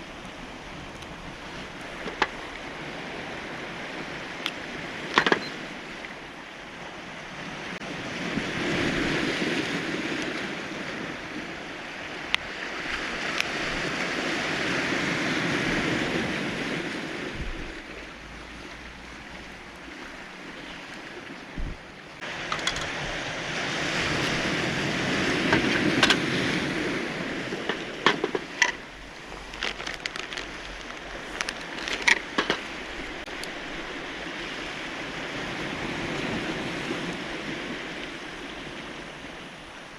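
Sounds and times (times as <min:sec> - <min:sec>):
waves washing onto cobbles: 0:00.0 - 0:39.9.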